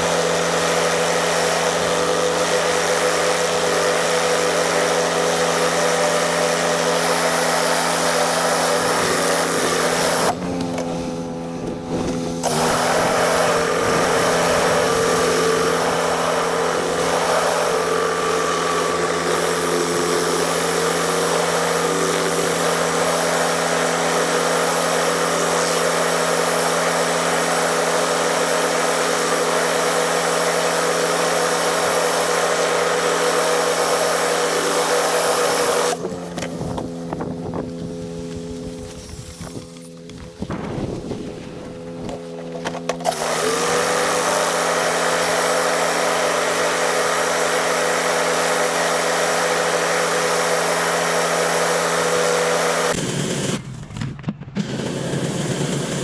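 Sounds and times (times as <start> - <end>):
pressure washer engine drone: 0.0 - 56.0.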